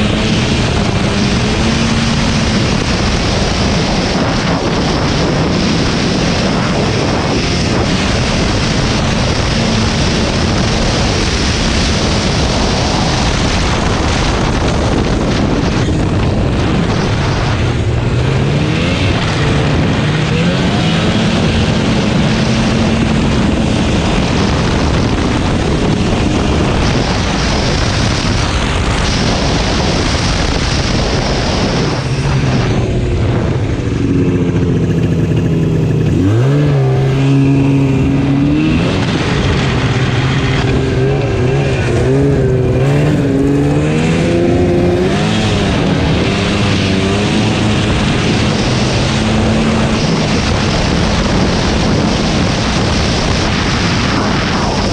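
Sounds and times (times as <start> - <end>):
snowmobile engine revving: 0.0 - 54.9
steady rush of noise: 0.0 - 54.9.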